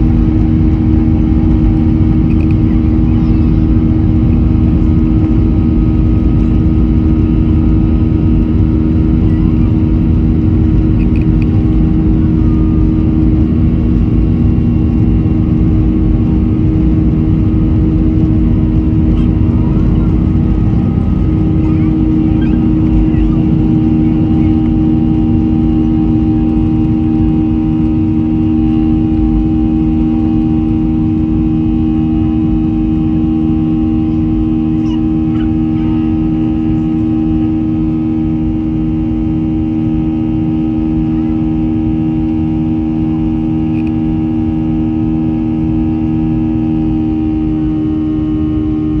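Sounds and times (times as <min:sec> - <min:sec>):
jet engines drone: 0:00.0 - 0:49.0.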